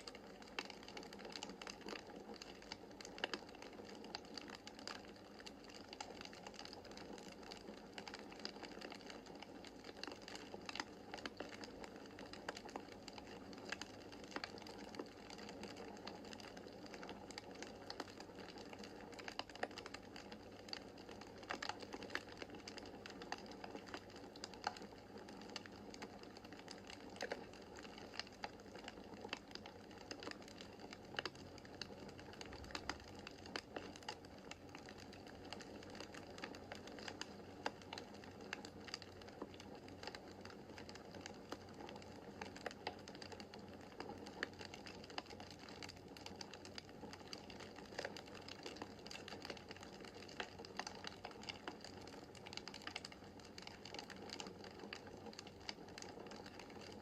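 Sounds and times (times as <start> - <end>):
burning logs crackling and popping: 0.0 - 57.0.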